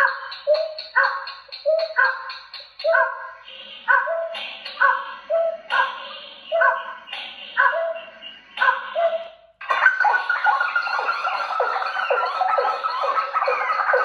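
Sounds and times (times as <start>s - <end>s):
recorded bird call over loudspeakers: 0.0s - 14.0s.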